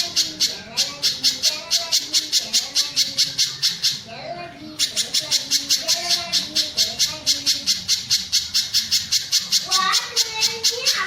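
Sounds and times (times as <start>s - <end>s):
bird calling in sharp high chips: 0.0s - 4.1s, 4.8s - 11.0s.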